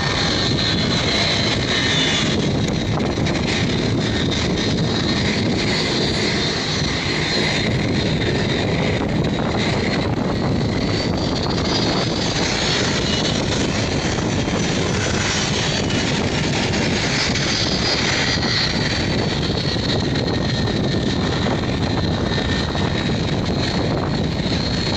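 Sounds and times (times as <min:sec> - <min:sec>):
jet engines with fan whine: 0:00.0 - 0:24.9.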